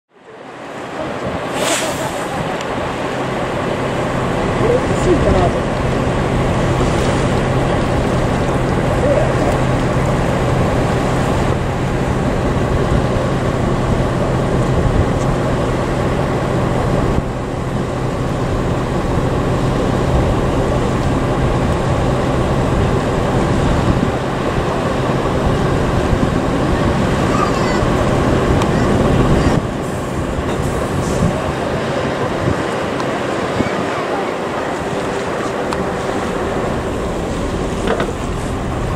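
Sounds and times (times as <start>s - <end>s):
ferry engines humming: 0.1s - 38.9s.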